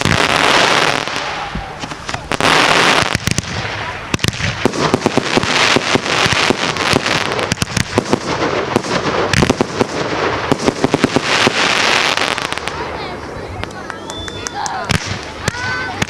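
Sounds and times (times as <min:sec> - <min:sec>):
fireworks banging: 0:00.0 - 0:16.0
fireworks crackling and hissing: 0:00.0 - 0:16.0.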